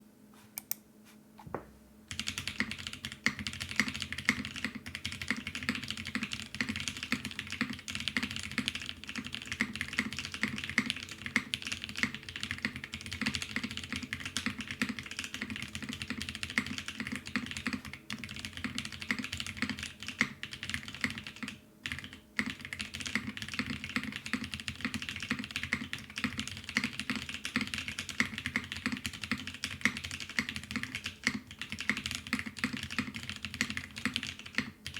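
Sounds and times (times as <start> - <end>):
fast typing on mechanical keyboard: 2.1 - 34.9.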